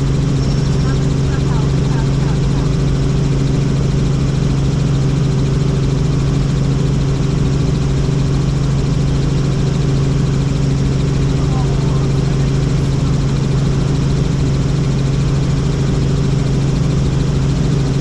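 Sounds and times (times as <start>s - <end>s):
helicopter rotor and engine drone: 0.0s - 18.0s.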